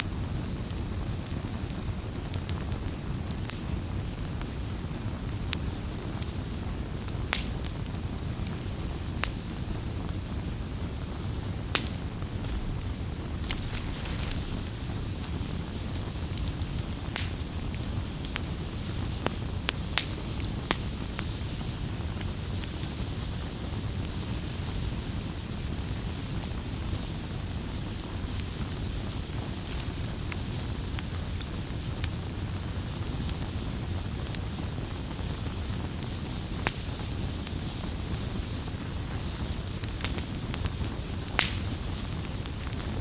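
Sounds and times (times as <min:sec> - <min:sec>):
low rumble of flames: 0:00.0 - 0:43.0
campfire crackling: 0:00.1 - 0:43.0.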